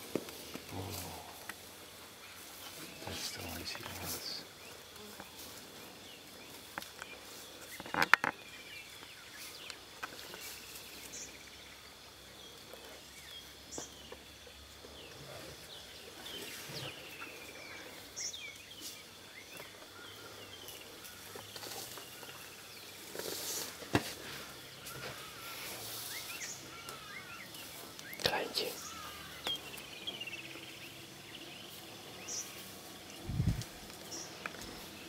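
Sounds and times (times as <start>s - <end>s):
high insect drone: 0.0s - 35.0s.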